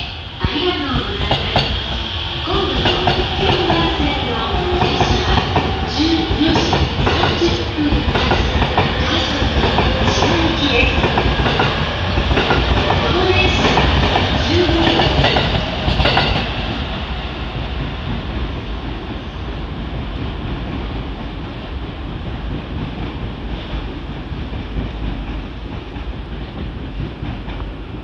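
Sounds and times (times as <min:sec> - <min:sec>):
train wheels clattering over rails: 0:00.0 - 0:28.0.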